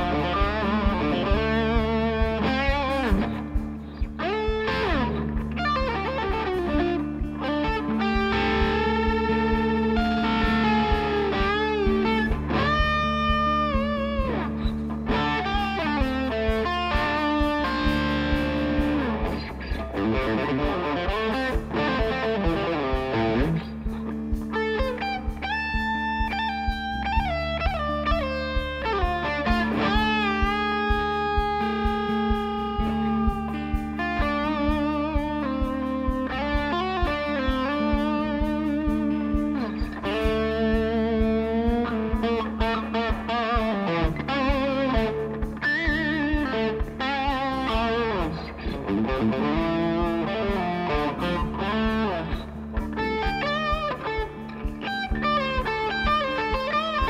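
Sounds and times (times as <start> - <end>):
electric guitar solo: 0.0 - 57.0
rock band playing: 0.0 - 57.0.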